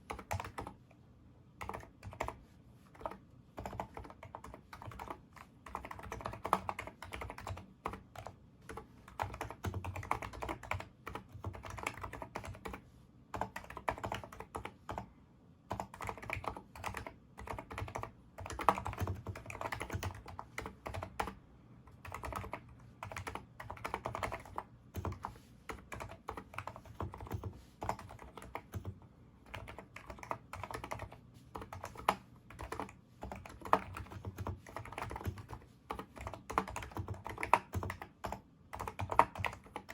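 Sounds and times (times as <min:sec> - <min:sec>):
keyboard typing: 0:00.0 - 0:00.8, 0:01.6 - 0:15.1, 0:15.7 - 0:39.9.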